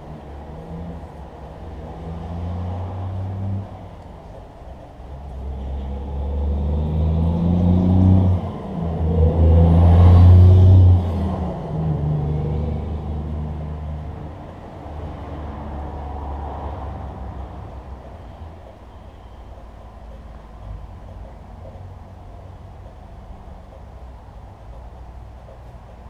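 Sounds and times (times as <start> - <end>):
passing vehicle engine rumble: 0.0 - 26.0.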